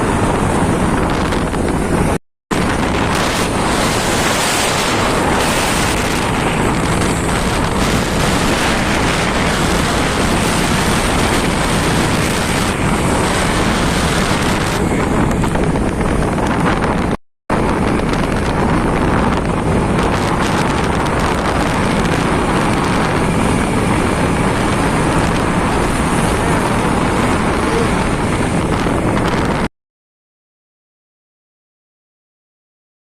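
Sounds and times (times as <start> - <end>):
motorcycle road noise: 0.0 - 29.7
wind rushing over microphone: 0.0 - 29.7.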